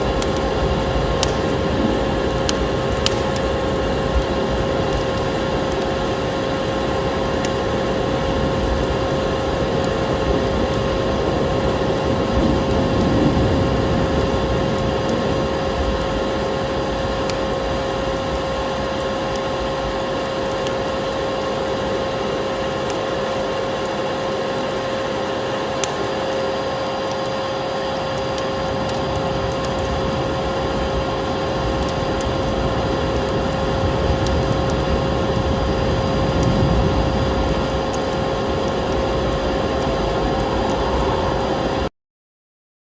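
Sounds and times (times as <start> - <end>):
vacuum cleaner running: 0.0 - 41.9
wood fire crackling: 0.0 - 41.9.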